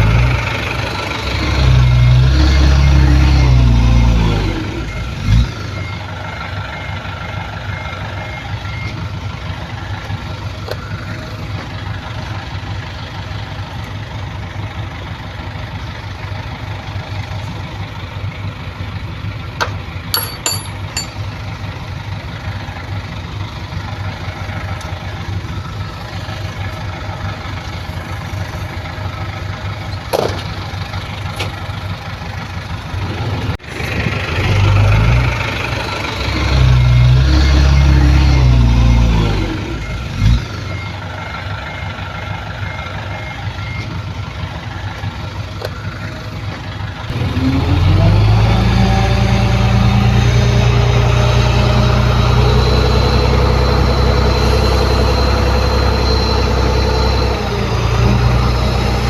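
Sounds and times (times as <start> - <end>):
diesel engine running at low revs: 0.0 - 59.0.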